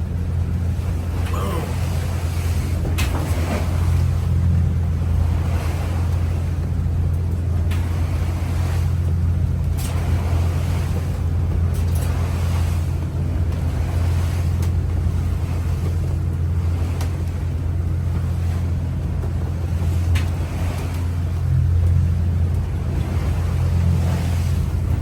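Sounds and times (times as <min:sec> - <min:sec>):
boat engine droning: 0:00.0 - 0:25.0
water rushing along hull: 0:00.0 - 0:25.0.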